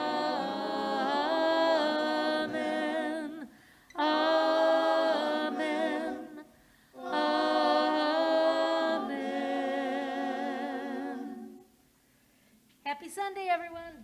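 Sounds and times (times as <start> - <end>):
group singing held chords: 0.0 - 11.8.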